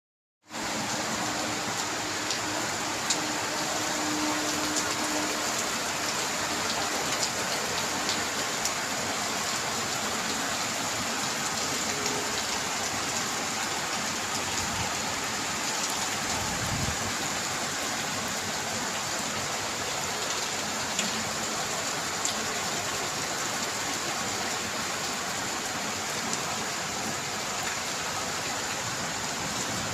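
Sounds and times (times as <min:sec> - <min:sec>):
heavy rain: 0:00.4 - 0:29.9
rain drops ticking on hard surface: 0:00.5 - 0:29.9.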